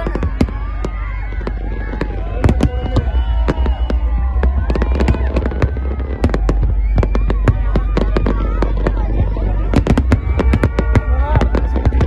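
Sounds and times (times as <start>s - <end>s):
fireworks cracks and bangs: 0.0s - 12.0s
low rumble: 0.0s - 12.0s.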